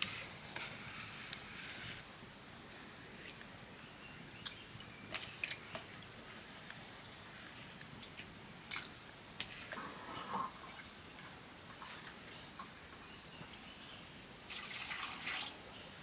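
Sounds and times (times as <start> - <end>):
small wet sounds: 0.0 - 12.9
faint high hiss: 0.0 - 16.0.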